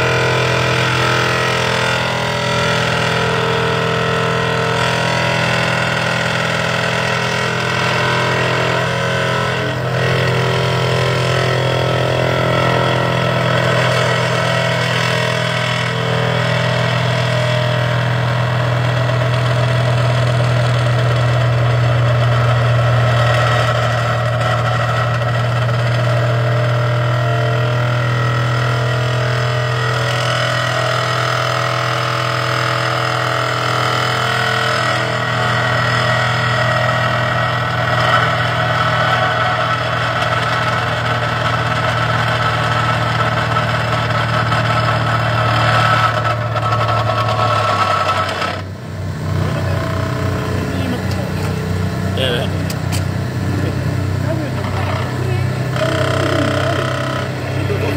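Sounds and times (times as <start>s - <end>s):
vibratory pile hammer drone: 0.0s - 57.9s.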